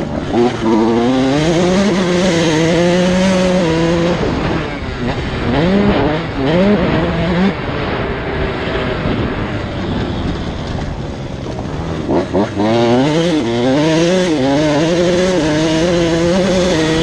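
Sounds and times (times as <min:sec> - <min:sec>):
dirt bike engines running: 0:00.0 - 0:17.0.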